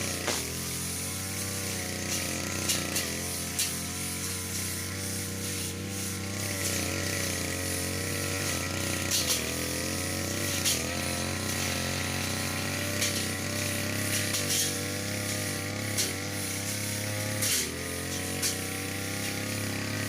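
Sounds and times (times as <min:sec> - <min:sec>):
brush cutter engine cutting grass: 0:00.0 - 0:20.0.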